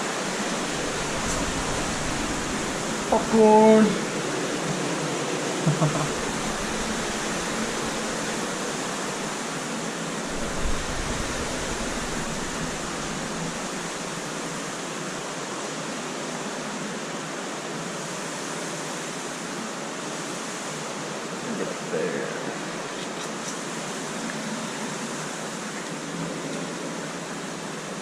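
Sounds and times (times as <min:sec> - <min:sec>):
waterfall echoing in a cave: 0:00.0 - 0:28.0.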